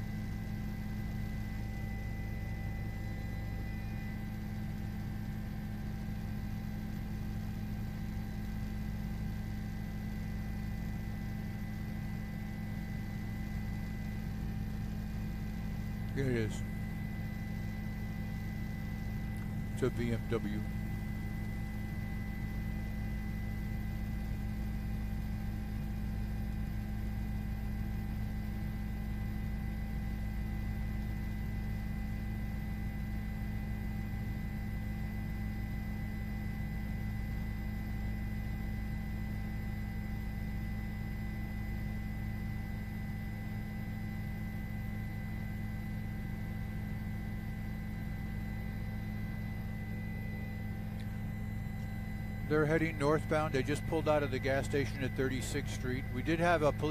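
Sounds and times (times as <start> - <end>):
low hum: 0.0 - 34.7, 37.1 - 56.9.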